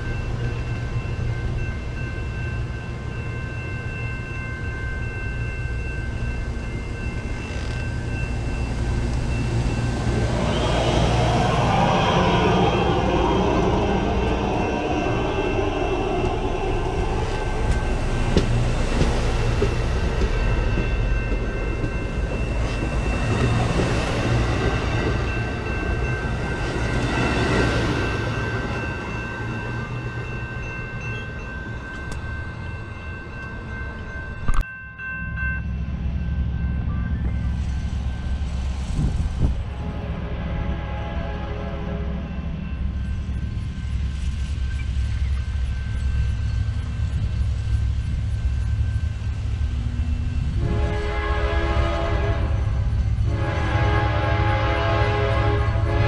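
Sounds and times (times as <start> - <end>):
train wheels rumbling on rail: 5.8 - 33.8, 36.3 - 56.0.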